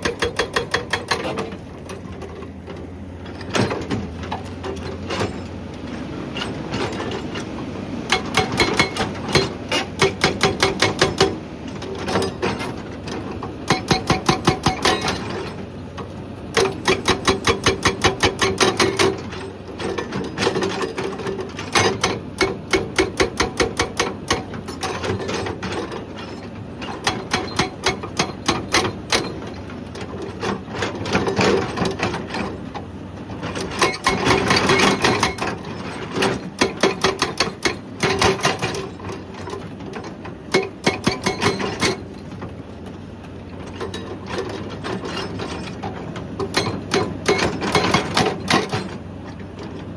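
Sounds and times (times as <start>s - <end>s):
hydraulic breaker hammering rock: 0.0s - 5.6s, 8.1s - 15.7s, 16.5s - 42.6s, 43.7s - 49.7s.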